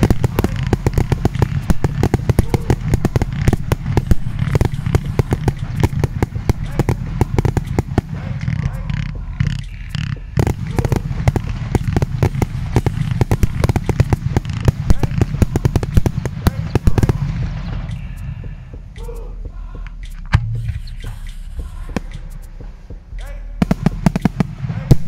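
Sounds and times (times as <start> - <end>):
firework cracks: 0.0 - 19.0, 23.6 - 25.0.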